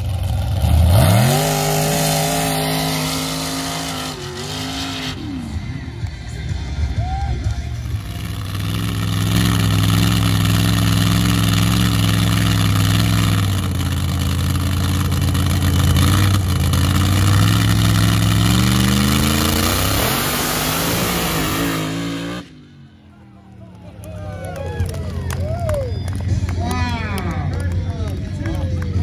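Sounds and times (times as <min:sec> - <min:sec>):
race car engine revving: 0:00.0 - 0:06.9, 0:07.6 - 0:24.4.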